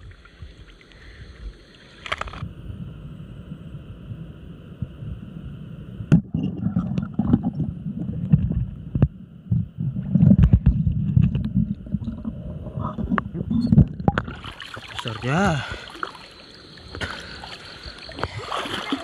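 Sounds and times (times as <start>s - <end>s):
underwater sloshing and rumbling: 0.0s - 19.0s.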